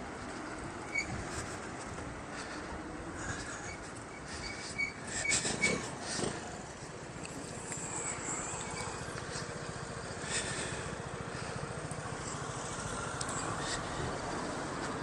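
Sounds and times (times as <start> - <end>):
scooter wheels rumbling on asphalt: 0.0 - 15.0.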